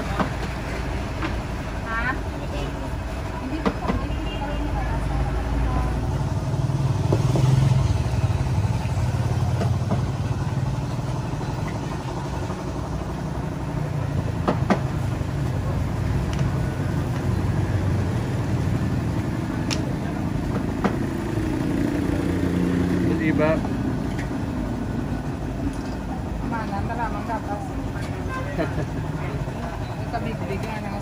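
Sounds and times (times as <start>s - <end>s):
road traffic engine rumble: 0.0s - 31.0s.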